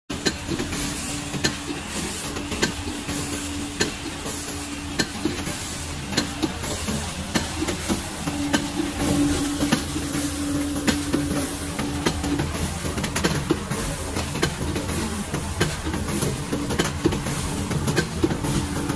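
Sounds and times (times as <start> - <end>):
machine hum: 0.2 - 18.9.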